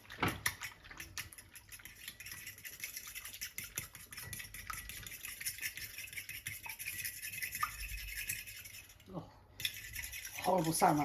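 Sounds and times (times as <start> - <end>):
egg beaten in a bowl: 0.0 - 11.0.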